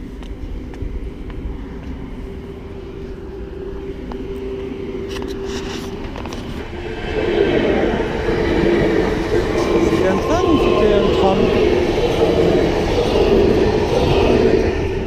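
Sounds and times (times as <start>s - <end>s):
steady train drone: 0.0s - 15.0s
train rushing past: 0.0s - 15.0s.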